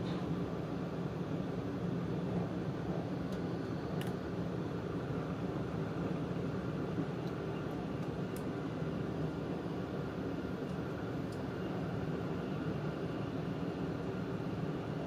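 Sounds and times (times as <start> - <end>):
train running rumble and hiss: 0.0 - 15.0.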